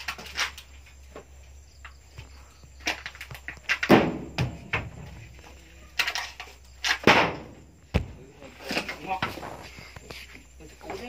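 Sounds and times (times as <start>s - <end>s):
sharp knocks and thumps: 0.0s - 10.2s.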